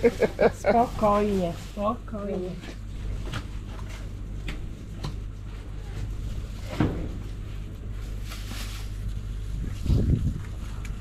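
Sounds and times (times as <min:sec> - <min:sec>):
plastic bag rustling: 0:00.0 - 0:04.3, 0:05.4 - 0:10.3
low outdoor rumble: 0:00.0 - 0:11.0.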